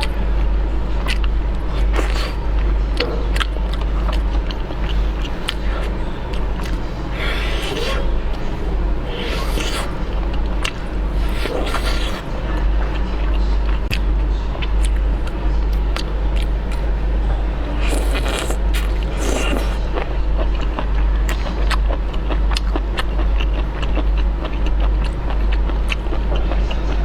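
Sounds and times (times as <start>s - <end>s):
steady low hum: 0.0s - 27.0s
wet mouth chewing sounds: 0.0s - 27.0s.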